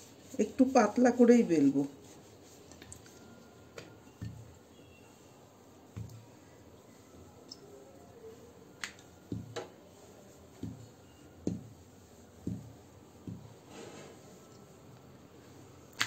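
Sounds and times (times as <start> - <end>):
rolling pin rolling dough: 0.0 - 16.0.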